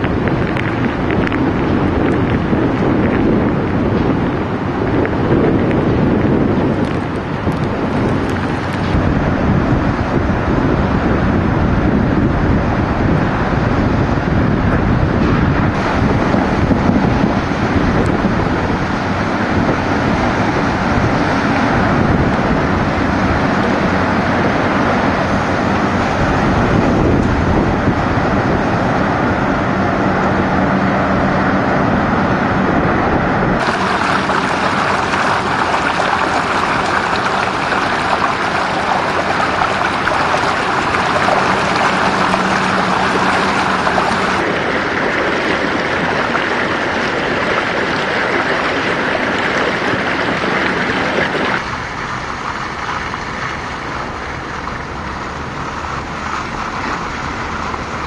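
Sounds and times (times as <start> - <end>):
vehicle driving through floodwater: 0.0 - 58.0
wind buffeting microphone: 0.0 - 58.0.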